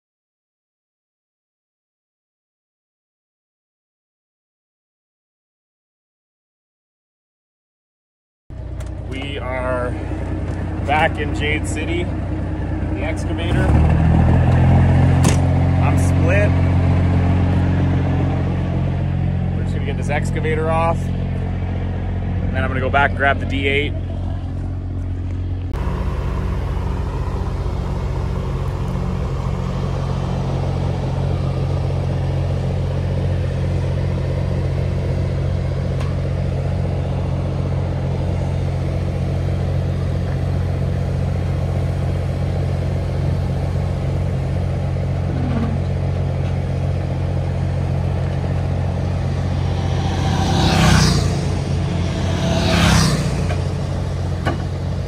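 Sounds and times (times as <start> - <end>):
diesel engine running: 8.5 - 55.0.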